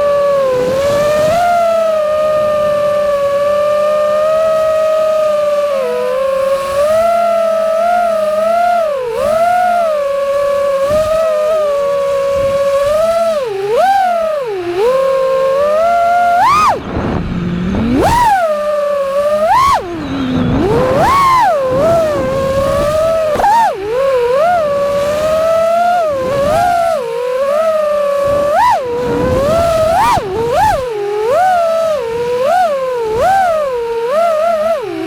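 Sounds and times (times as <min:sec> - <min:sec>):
quadcopter motors whining: 0:00.0 - 0:35.0.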